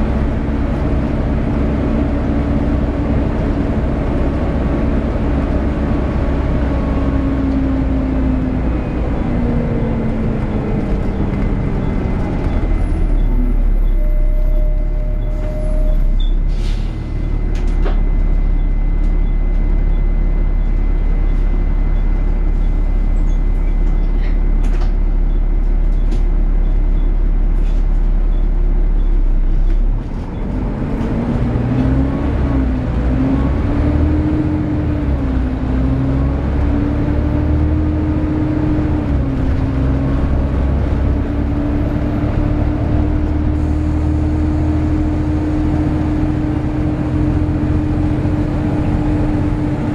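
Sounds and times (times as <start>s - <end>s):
bus cooling fan drone: 0.0s - 49.9s.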